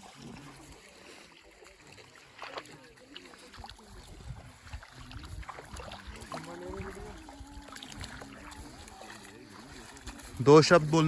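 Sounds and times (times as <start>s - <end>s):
people talking faintly: 0.0s - 11.0s.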